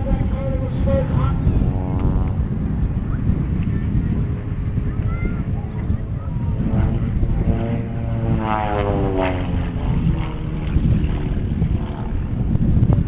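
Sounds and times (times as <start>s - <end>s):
propeller airplane engine overhead: 0.0s - 13.0s
steady low rumble: 0.0s - 13.0s.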